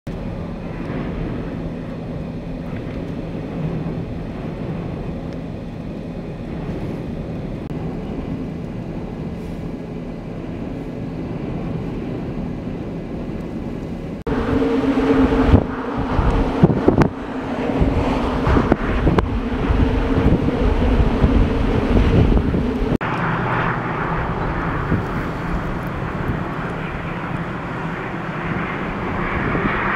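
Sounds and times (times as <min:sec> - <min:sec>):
low vehicle hum: 0:00.1 - 0:29.9
strong wind rushing: 0:00.1 - 0:29.9.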